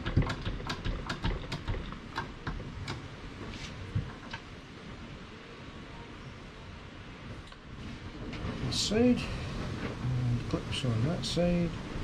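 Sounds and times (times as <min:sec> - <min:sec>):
low background hiss: 0:01.9 - 0:12.0.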